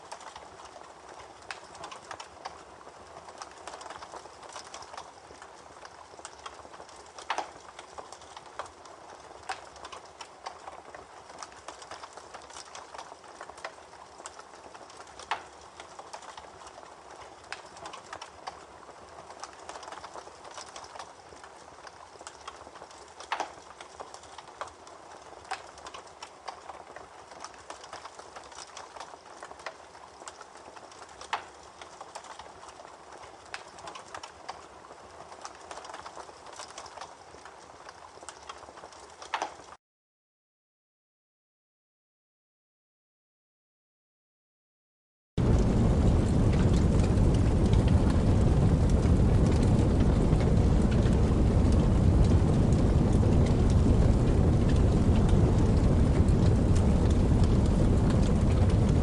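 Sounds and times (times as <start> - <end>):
campfire crackling and popping: 0.0 - 39.8, 45.4 - 59.0.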